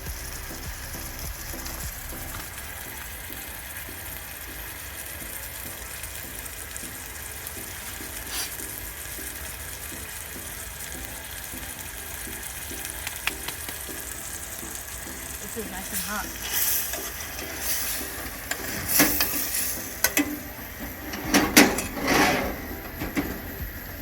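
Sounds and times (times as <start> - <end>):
potatoes sizzling in a pan: 0.0 - 24.0.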